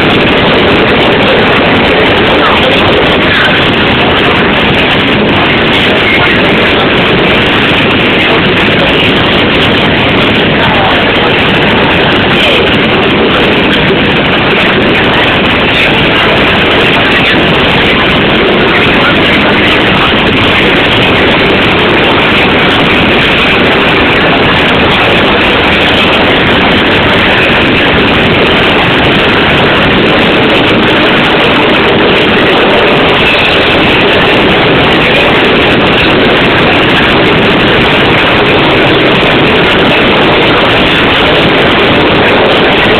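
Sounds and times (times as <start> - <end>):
train running: 0.0 - 42.9.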